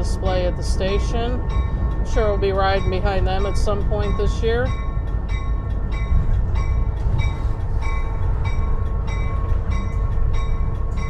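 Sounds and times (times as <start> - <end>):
locomotive bell ringing: 0.0 - 11.0
locomotive engine rumble: 0.0 - 11.0.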